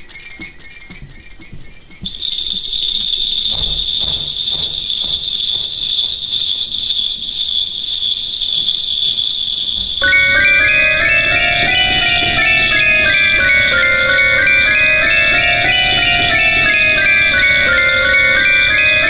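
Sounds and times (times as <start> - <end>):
bells jingling: 2.0 - 19.0.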